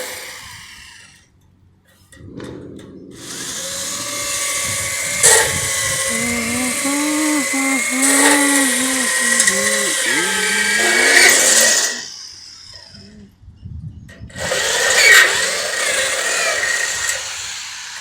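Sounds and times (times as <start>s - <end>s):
power tool whining: 0.0s - 1.2s, 3.2s - 13.1s, 14.3s - 18.0s.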